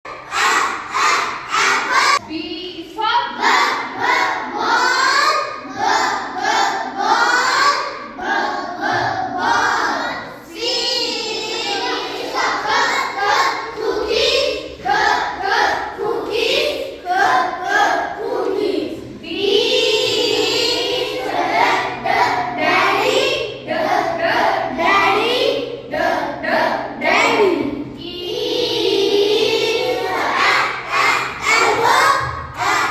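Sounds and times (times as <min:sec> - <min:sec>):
children singing in unison: 0:00.1 - 0:02.2, 0:03.3 - 0:32.9.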